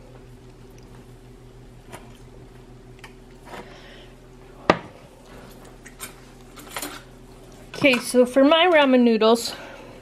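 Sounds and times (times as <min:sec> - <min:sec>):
appliance electrical hum: 0:00.0 - 0:10.0.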